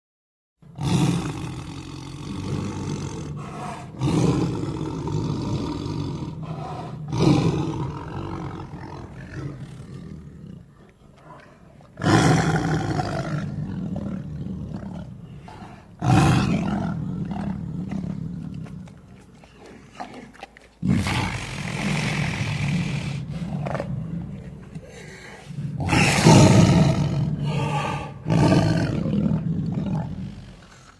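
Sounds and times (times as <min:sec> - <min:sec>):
lion roaring: 0:00.7 - 0:30.9.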